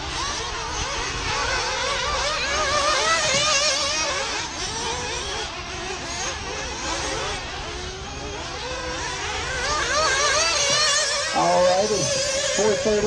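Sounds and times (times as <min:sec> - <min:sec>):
rc buggy engines buzzing: 0:00.0 - 0:13.0.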